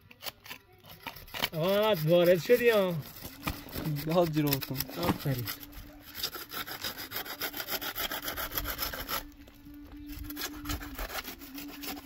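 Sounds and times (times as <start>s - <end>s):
rhythmic scraping strokes: 0.4s - 12.0s.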